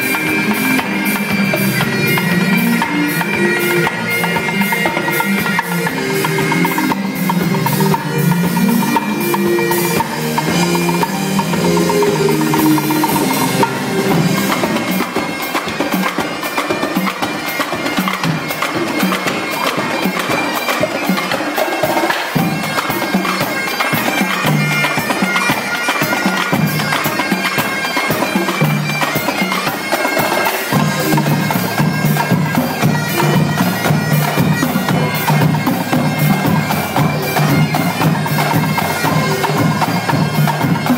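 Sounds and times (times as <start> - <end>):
bagpipes playing a tune: 0.0 - 40.9
drum line playing: 0.0 - 40.9.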